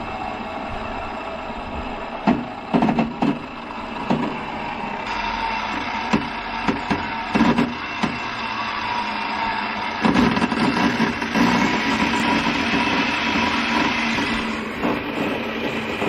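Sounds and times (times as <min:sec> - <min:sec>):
table saw running: 0:01.2 - 0:16.0.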